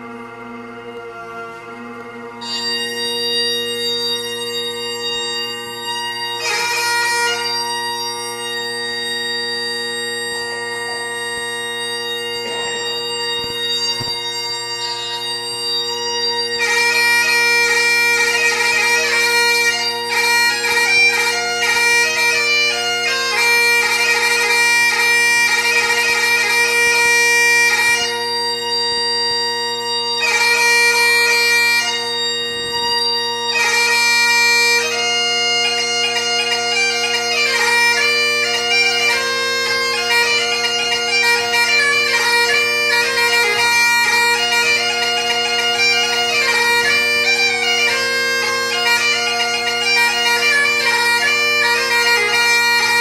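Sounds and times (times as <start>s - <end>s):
bagpipe chanter melody: 0.0s - 53.0s
bagpipe drones: 0.0s - 53.0s.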